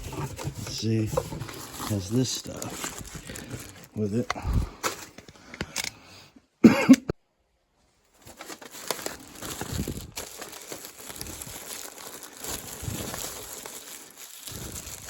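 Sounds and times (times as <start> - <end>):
plastic packaging crinkling: 0.0 - 5.2, 8.1 - 15.0.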